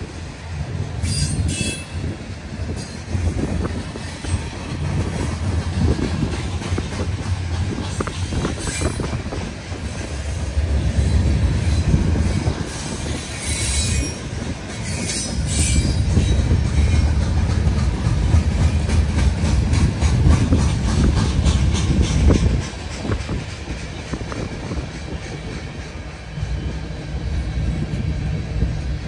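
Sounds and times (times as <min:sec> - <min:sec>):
freight train wheels rumbling: 0:00.0 - 0:29.0
wheels clicking over rail joints: 0:02.7 - 0:27.0.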